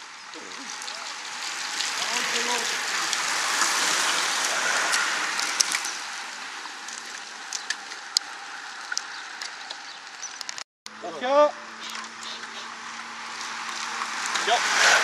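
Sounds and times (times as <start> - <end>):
bicycle tyres and freewheels hissing: 0.0 - 10.6, 11.7 - 15.0.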